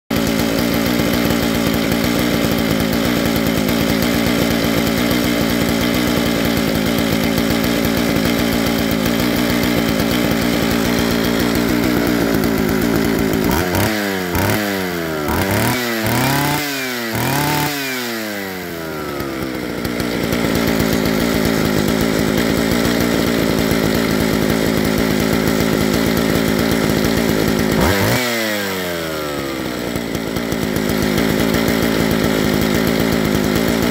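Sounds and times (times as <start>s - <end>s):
chainsaw idling and revving: 0.0s - 33.9s.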